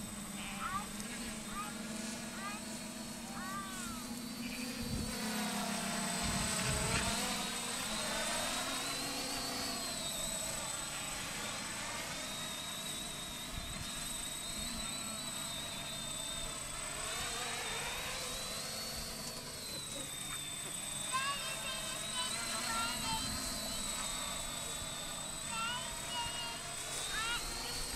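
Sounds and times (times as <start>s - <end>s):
drone propellers whining: 0.0s - 27.9s.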